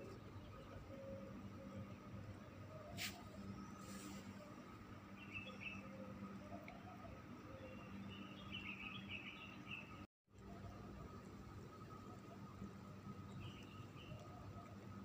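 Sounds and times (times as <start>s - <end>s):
birds chirping: 0.0s - 10.1s, 11.7s - 15.0s
low steady hum: 0.0s - 15.0s.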